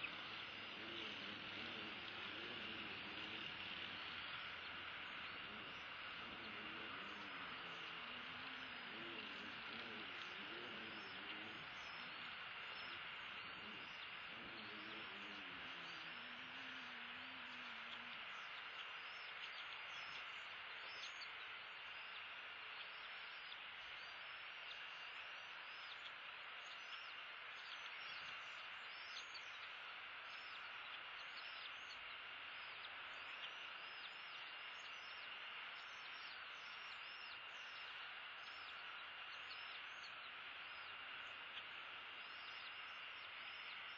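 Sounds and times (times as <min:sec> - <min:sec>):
steady hiss with high tone: 0:00.0 - 0:43.9.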